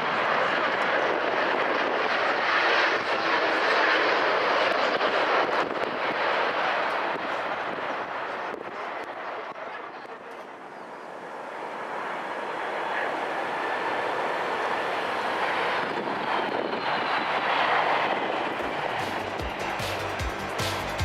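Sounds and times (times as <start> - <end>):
jet airliner engine rush: 0.0 - 21.0.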